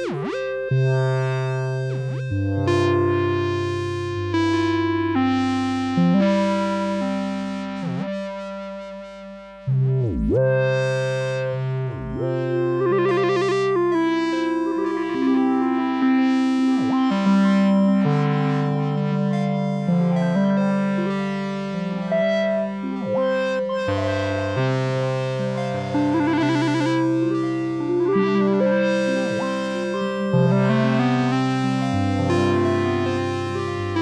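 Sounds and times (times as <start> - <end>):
synthesizer music: 0.0 - 34.0.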